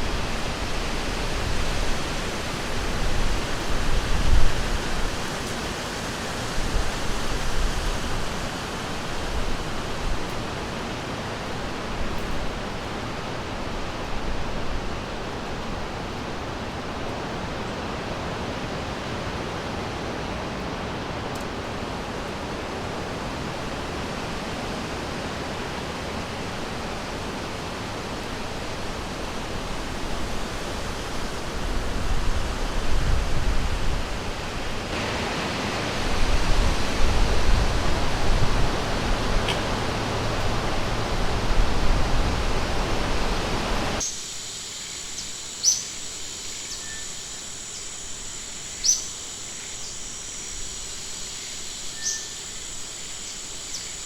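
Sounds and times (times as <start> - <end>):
river water rushing: 0.0 - 44.1.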